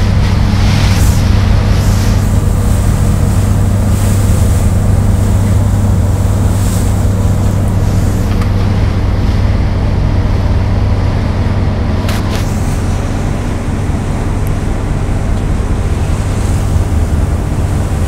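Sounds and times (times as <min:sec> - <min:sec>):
boat engine droning: 0:00.0 - 0:18.0
rushing water: 0:00.0 - 0:18.0.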